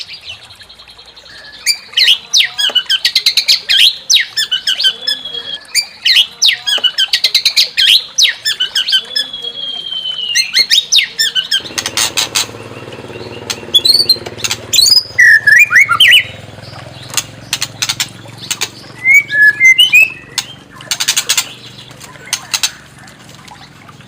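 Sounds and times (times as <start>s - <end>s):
bird singing harsh and whistled phrases: 0.0s - 23.8s.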